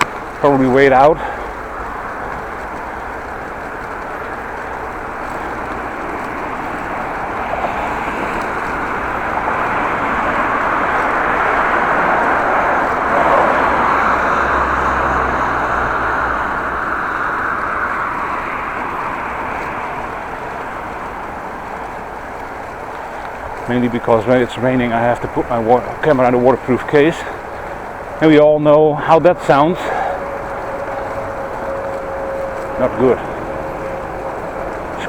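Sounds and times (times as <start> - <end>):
motor vehicle passing: 0.0 - 35.0
steady road noise: 0.0 - 35.0.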